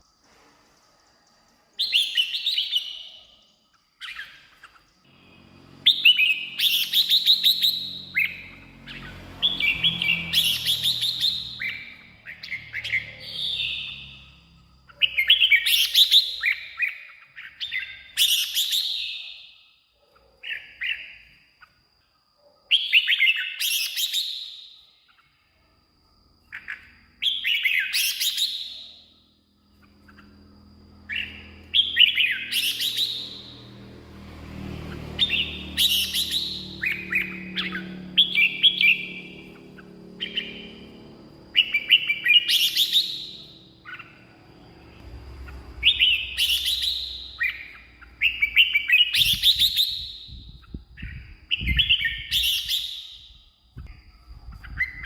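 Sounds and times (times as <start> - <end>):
bird warbling song: 1.5 - 21.8, 29.6 - 33.9, 34.8 - 55.0.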